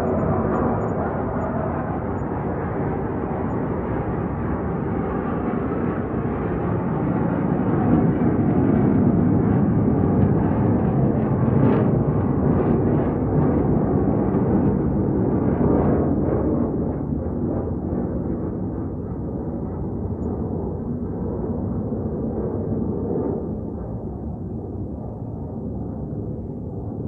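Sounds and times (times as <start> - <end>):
military aircraft flying over: 0.0 - 27.0.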